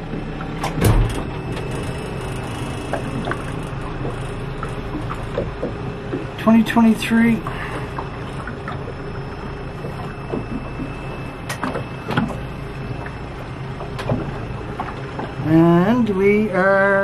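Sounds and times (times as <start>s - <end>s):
boat motor running: 0.0s - 17.0s
water against hull: 0.0s - 17.0s.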